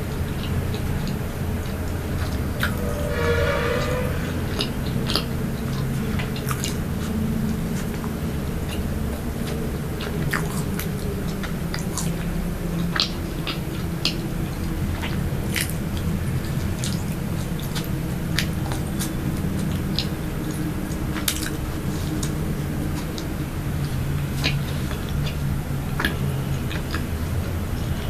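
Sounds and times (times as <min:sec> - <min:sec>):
low hum: 0:00.0 - 0:28.0
chewing snacks: 0:04.5 - 0:28.0.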